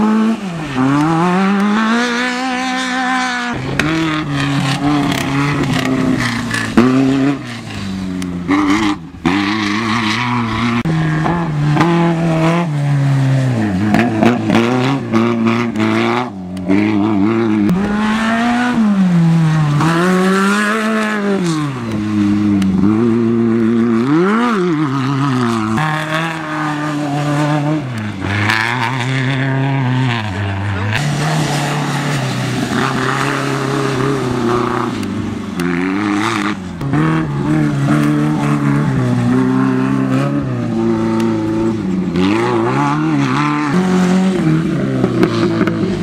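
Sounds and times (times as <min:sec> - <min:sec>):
race buggy engines revving: 0:00.0 - 0:46.0.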